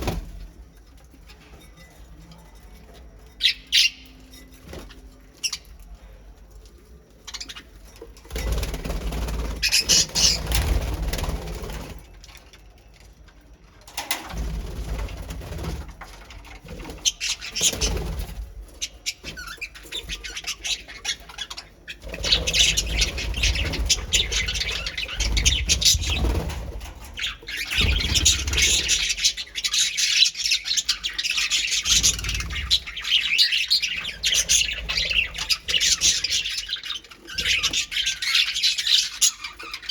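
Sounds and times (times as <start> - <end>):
birds chirping and chattering: 0.0 - 39.9
low rustling of birds: 0.0 - 39.9.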